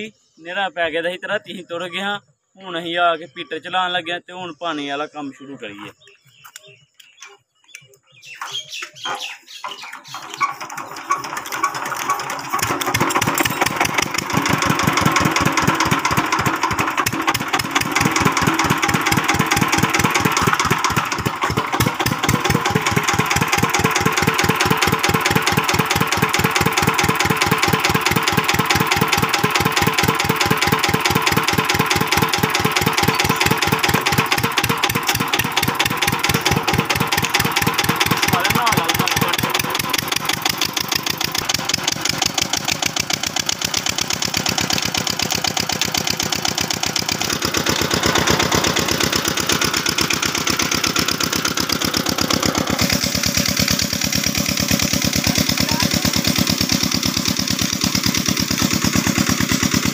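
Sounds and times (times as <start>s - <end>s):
diesel engine starting and running: 8.2s - 59.9s.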